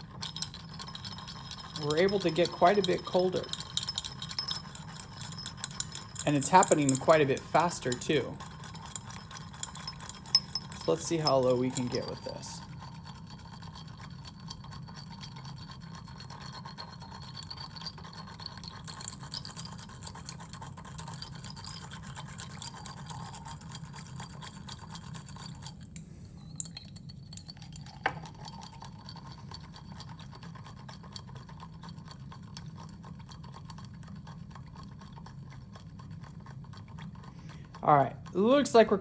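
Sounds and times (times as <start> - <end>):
rod scraping and clinking glass: 0.0 - 31.4.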